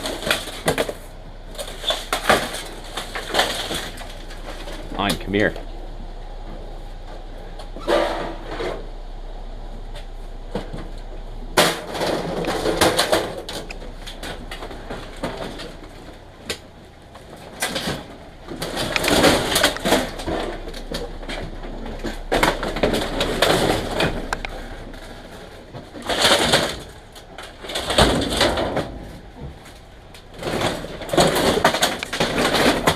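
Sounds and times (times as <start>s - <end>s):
junk scraping and clattering: 0.0s - 32.9s.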